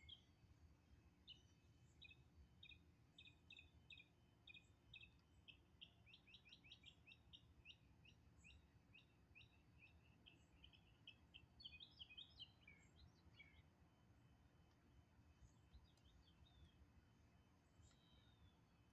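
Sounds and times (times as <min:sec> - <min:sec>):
faint bird chirping: 0:00.0 - 0:00.4, 0:01.2 - 0:14.3, 0:15.3 - 0:18.9.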